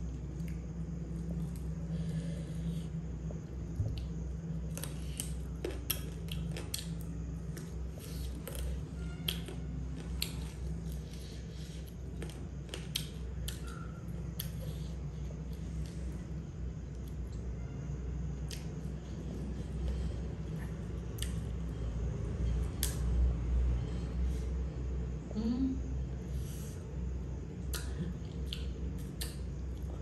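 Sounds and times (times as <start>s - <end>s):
chewing and crunching food: 0.0s - 17.5s, 18.3s - 23.1s, 27.6s - 30.0s
steady low hum: 0.0s - 30.0s.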